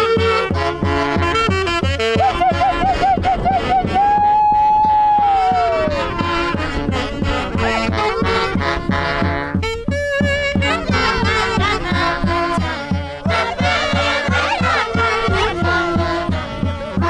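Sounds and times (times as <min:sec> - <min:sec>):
horns playing a melody: 0:00.0 - 0:17.0
steady drum beat: 0:00.0 - 0:17.0.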